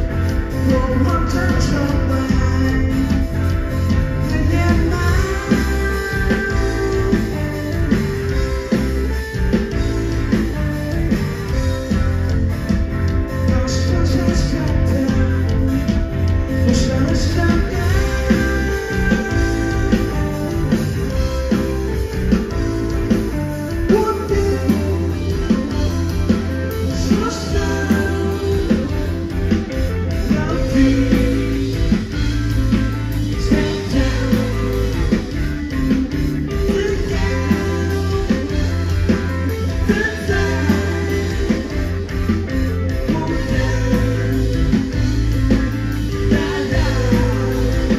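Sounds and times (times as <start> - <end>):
bass guitar: 0.0 - 47.9
drum kit beat: 0.0 - 47.9
electric guitars: 0.0 - 47.9.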